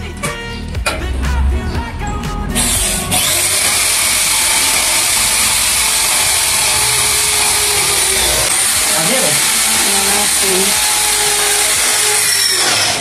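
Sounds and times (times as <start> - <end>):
electric drill boring through metal: 2.6 - 13.0.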